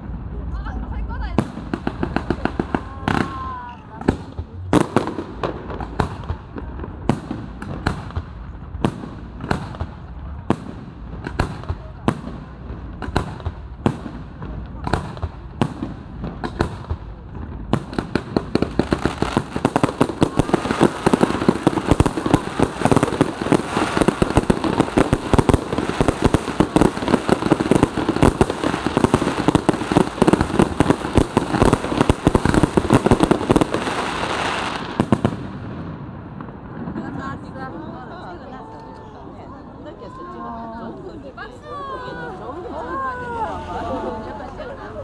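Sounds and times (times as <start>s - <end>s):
fireworks bangs: 0.0s - 38.4s
fireworks crackling: 0.0s - 45.0s.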